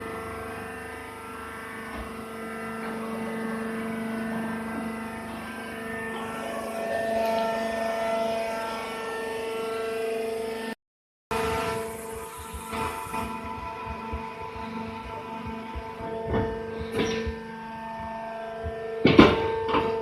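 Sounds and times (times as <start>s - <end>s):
baling machine humming: 0.0s - 20.0s.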